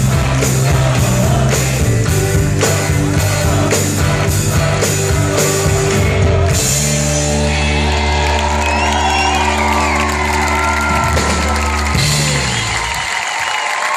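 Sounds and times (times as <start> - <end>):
drums keeping a beat: 0.0 - 8.8, 9.4 - 13.2
live rock band playing: 0.0 - 13.2.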